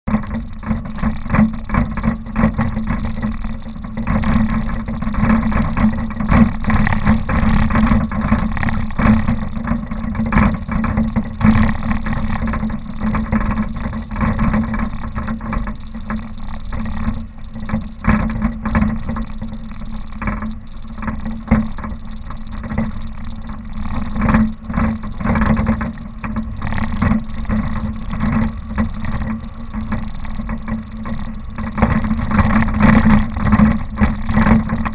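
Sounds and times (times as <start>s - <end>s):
engine rumbling: 0.1s - 34.9s.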